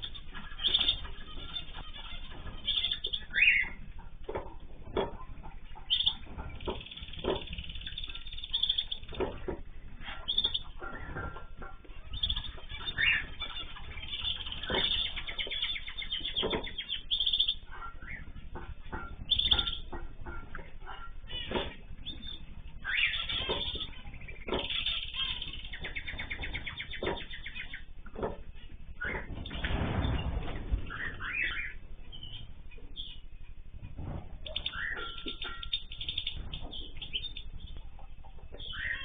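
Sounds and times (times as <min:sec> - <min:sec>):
bird trill: 0:00.0 - 0:39.0
small birds chirping: 0:00.0 - 0:39.0.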